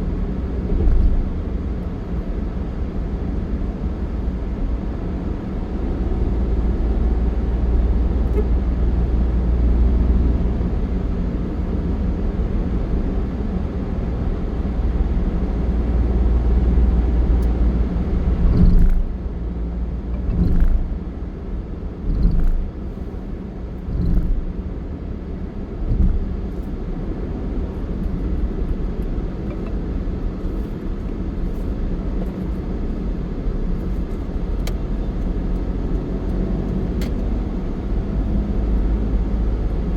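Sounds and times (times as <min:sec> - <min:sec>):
motor vehicle rumbling on road: 0:00.0 - 0:39.9.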